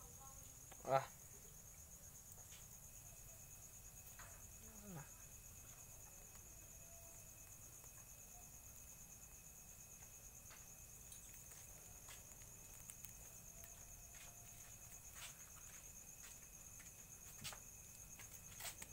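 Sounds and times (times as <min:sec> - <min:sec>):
crickets trilling: 0:00.0 - 0:18.9.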